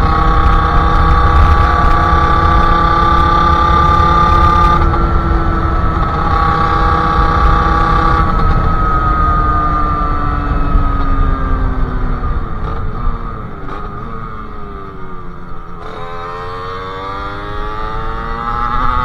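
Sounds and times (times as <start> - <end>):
two-stroke engine revving high: 0.0 - 19.0
wind rumble on microphone: 0.0 - 19.0.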